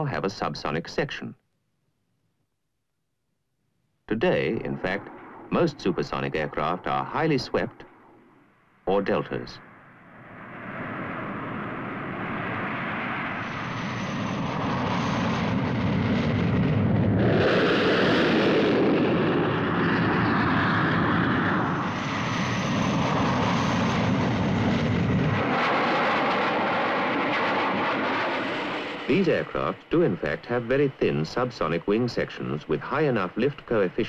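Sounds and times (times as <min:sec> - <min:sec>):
jet engine rush: 0:04.1 - 0:34.0.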